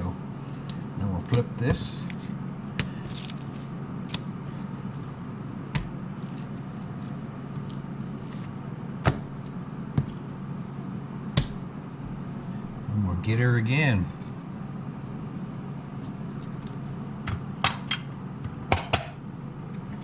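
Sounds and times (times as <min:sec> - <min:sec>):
kitchen appliance hum: 0:00.0 - 0:20.0.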